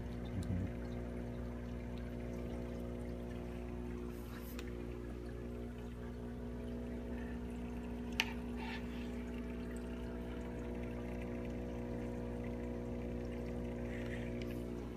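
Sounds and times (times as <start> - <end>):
aquarium pump hum: 0.0 - 14.9
trickle of moving water: 0.0 - 14.9.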